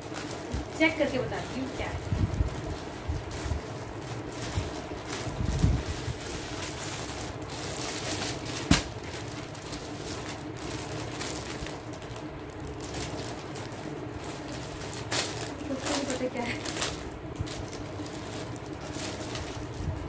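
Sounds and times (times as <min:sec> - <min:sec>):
plastic packaging rustling: 0:00.0 - 0:20.0.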